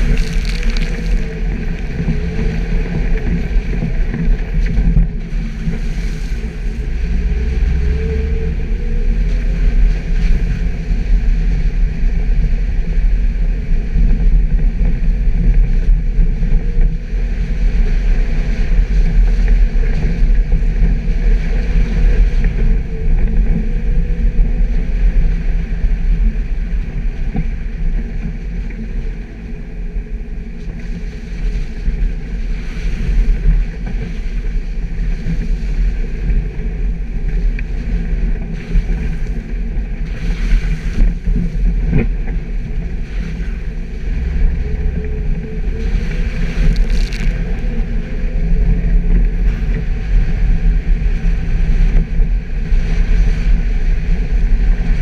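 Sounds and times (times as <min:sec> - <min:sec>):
engine rumble: 0:00.0 - 0:55.0.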